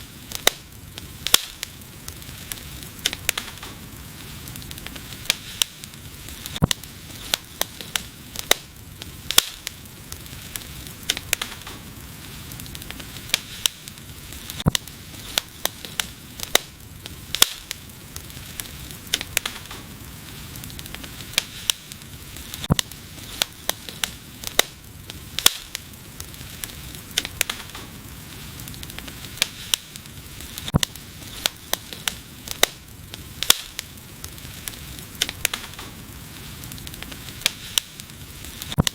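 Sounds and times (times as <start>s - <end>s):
fire hissing: 0.0s - 38.9s
wood fire crackling: 0.0s - 38.9s.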